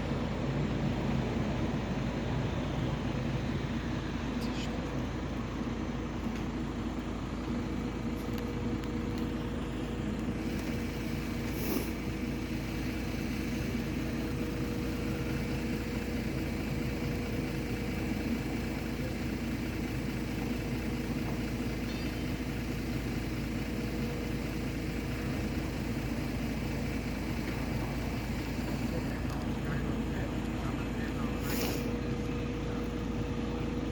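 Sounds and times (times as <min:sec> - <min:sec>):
tram humming: 0:00.0 - 0:33.9.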